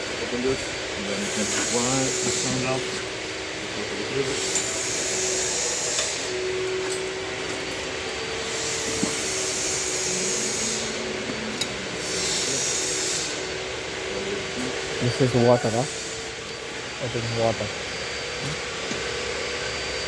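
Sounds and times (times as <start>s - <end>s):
machine whirring: 0.0s - 20.0s.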